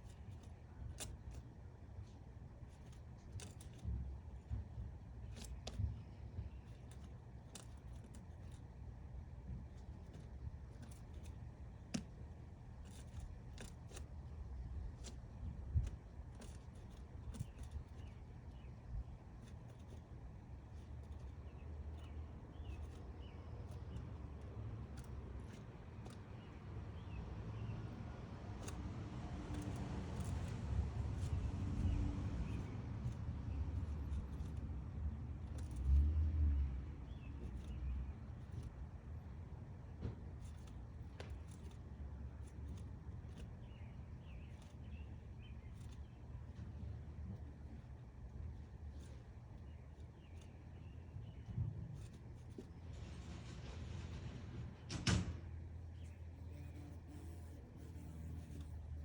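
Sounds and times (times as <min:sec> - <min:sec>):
woodpecker tapping on wood: 0:00.0 - 0:47.7
low steady rumble: 0:00.0 - 0:59.0.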